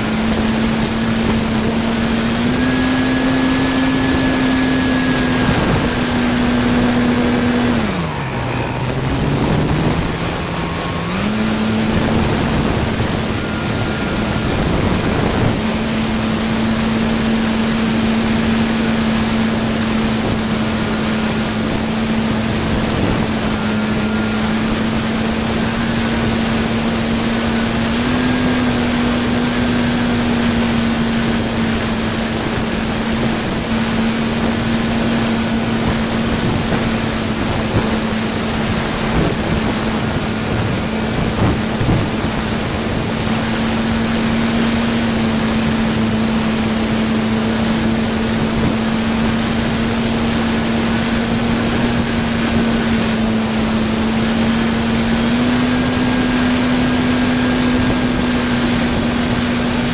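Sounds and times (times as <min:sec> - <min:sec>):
electric motor and propeller drone: 0:00.0 - 0:59.9
heavy wind rush: 0:00.0 - 0:59.9.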